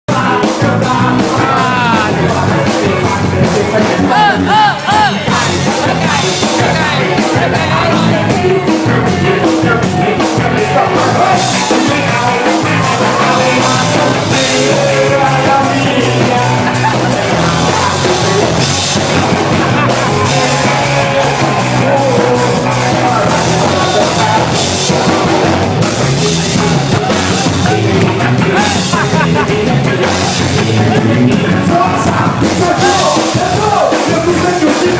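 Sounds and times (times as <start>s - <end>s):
drums: 0.0s - 34.9s
loud rock music: 0.0s - 34.9s
person singing: 0.0s - 34.9s.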